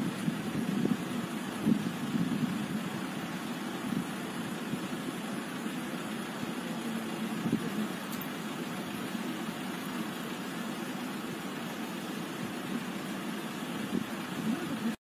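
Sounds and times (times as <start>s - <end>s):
constant hiss: 0.0s - 15.0s
faint held hum: 0.0s - 15.0s
vehicle engine rumble: 0.0s - 15.0s.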